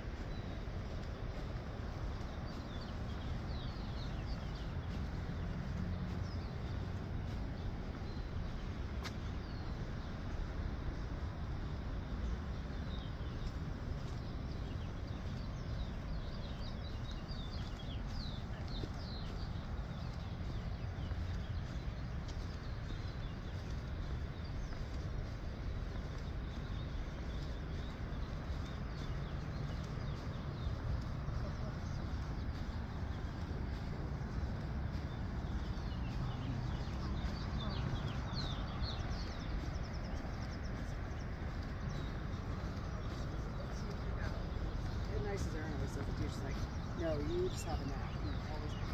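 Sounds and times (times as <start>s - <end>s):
songbirds chirping: 0.0s - 48.9s
steady low rumble: 0.0s - 48.9s.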